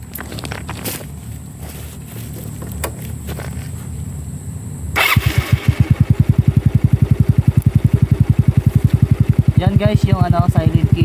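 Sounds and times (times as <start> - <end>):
motorcycle engine idling: 1.5 - 11.0.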